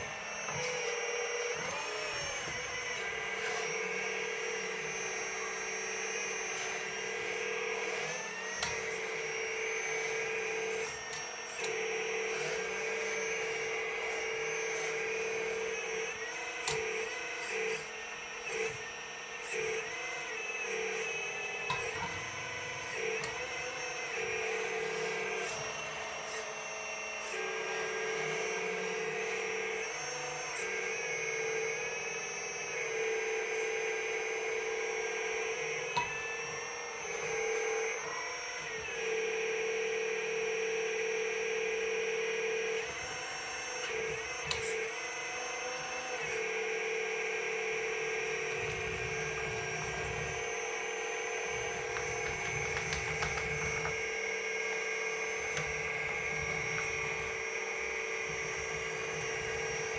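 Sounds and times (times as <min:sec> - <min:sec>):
electric motor and pump whine: 0:00.0 - 0:59.9.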